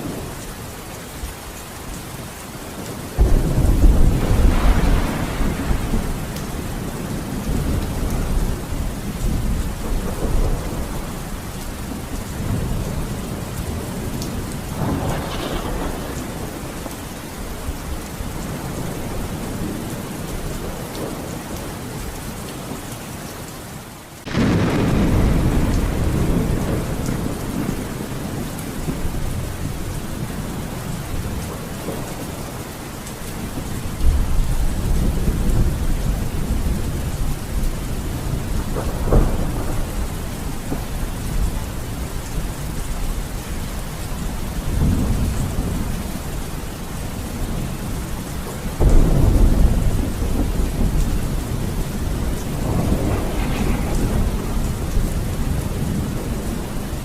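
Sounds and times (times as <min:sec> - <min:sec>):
heavy rain: 0:00.0 - 0:57.0
rolling thunder rumbles: 0:02.8 - 0:21.9, 0:24.3 - 0:57.0.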